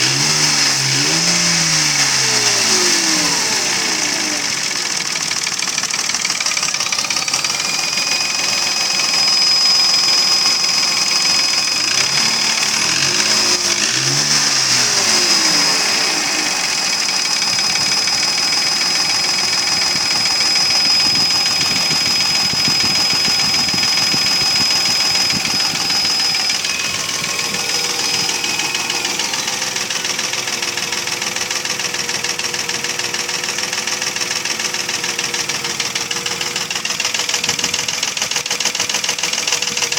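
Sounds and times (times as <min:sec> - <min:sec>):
car engine knocking: 0:01.0 - 0:39.9.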